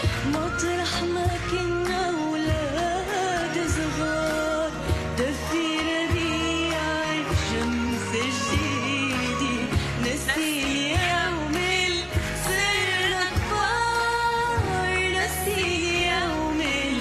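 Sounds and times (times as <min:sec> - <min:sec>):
girl singing into a microphone: 0:00.0 - 0:17.0.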